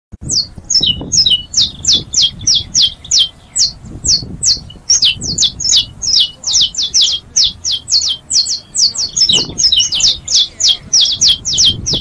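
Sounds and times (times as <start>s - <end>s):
finch singing: 0.2s - 12.0s.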